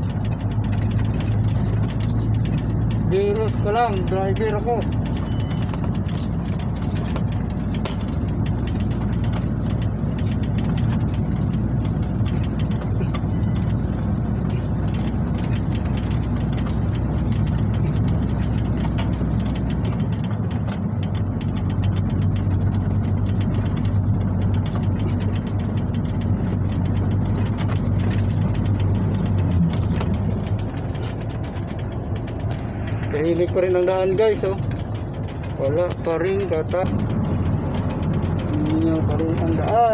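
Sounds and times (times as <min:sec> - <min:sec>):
truck engine drone from cab: 0:00.0 - 0:39.9.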